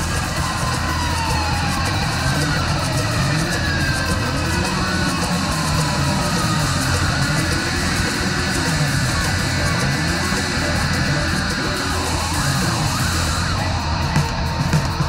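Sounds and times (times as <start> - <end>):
heavy rock band music: 0.0 - 15.0.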